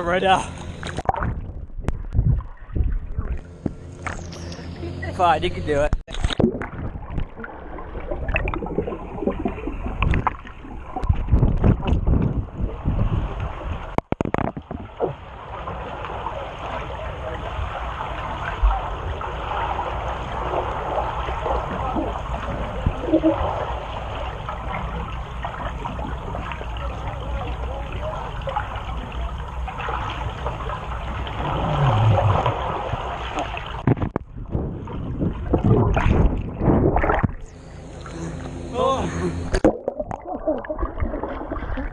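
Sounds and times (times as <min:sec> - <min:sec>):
water splashing and churning: 0:00.0 - 0:04.7, 0:06.1 - 0:41.9
muffled underwater rushing water: 0:00.0 - 0:38.8, 0:39.4 - 0:41.9.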